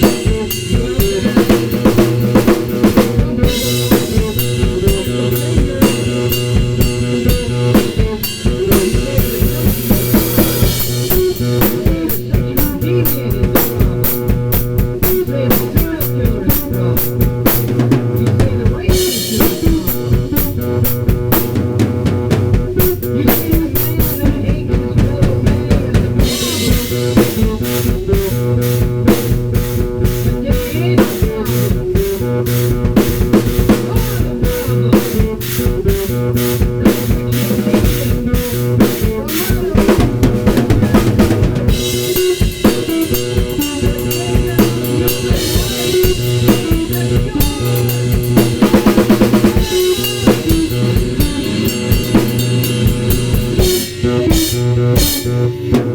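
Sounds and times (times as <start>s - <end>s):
drum kit playing fast: 0.0s - 55.9s.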